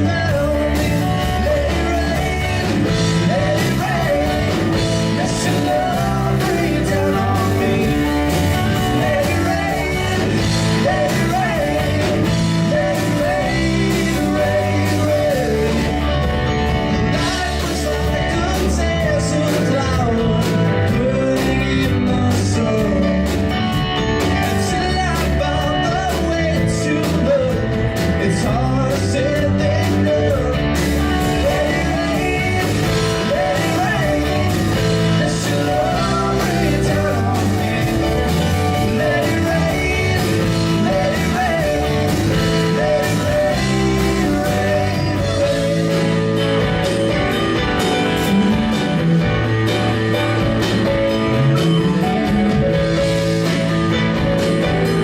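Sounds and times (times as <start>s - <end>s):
blues-rock band playing: 0.0s - 55.0s
electric guitar melody: 0.0s - 55.0s.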